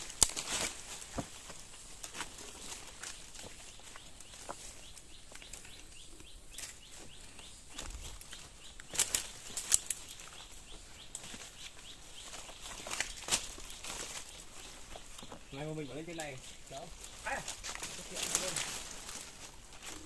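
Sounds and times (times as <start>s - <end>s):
brush and stones crackling underfoot: 0.0s - 20.0s.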